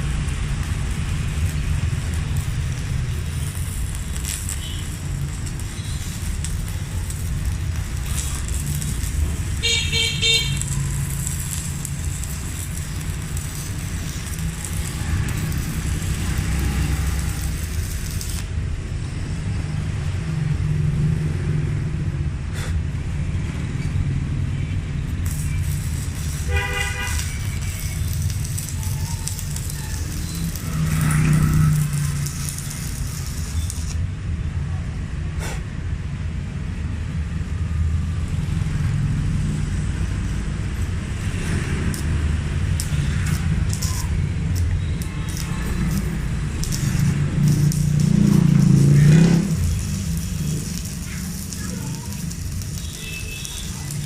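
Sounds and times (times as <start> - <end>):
welder hum: 0.0 - 18.8, 25.0 - 34.1, 38.3 - 54.0
welding arc crackling: 0.0 - 21.5, 24.1 - 34.3, 37.1 - 54.0.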